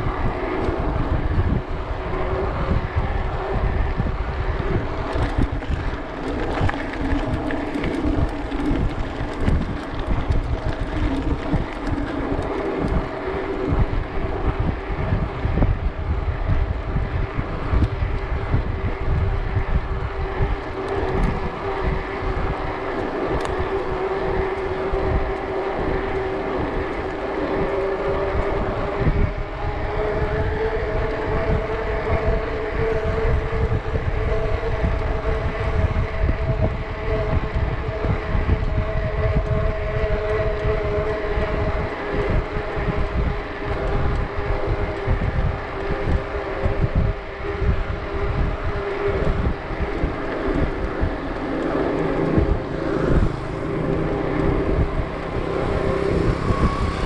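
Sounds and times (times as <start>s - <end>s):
steady drone: 0.0s - 57.0s
wind buffeting microphone: 0.0s - 57.0s.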